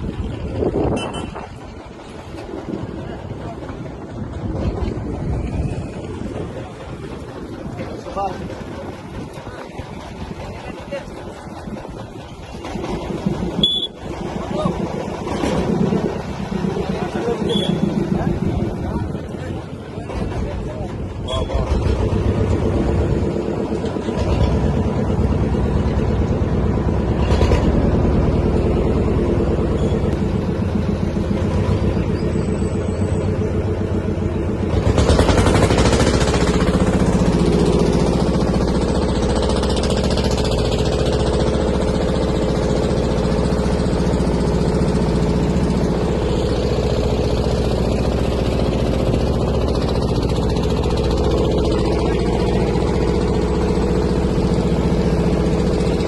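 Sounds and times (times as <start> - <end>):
motor boat engine running: 0.0 - 56.0.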